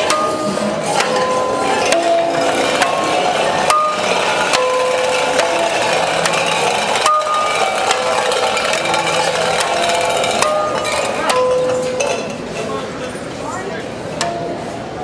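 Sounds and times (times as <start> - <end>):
bell-like metal notes: 0.0 - 12.8.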